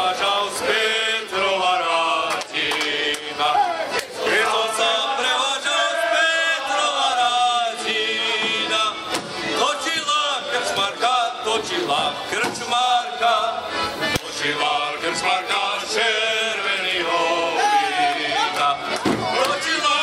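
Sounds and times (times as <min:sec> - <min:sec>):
group singing in chorus: 0:00.0 - 0:20.0.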